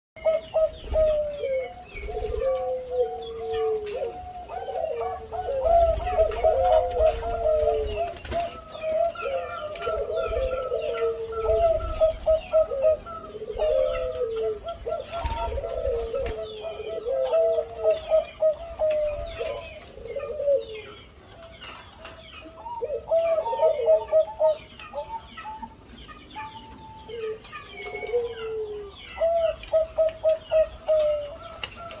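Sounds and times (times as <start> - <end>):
dove cooing: 0.2 - 21.4, 22.4 - 32.0.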